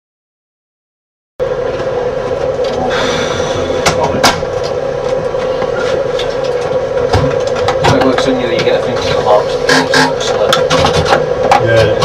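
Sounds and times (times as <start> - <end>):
train running drone: 1.4 - 12.0.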